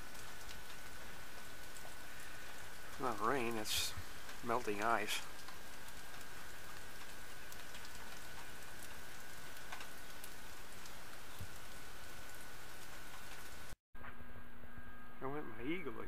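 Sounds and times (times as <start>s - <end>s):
melting ice dripping: 0.0s - 13.8s.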